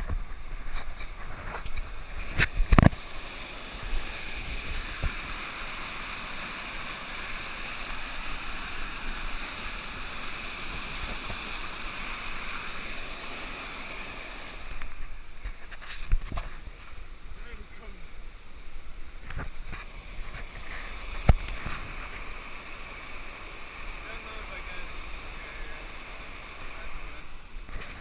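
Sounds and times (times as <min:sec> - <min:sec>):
waterfall rushing: 0:00.0 - 0:15.4, 0:16.6 - 0:27.7.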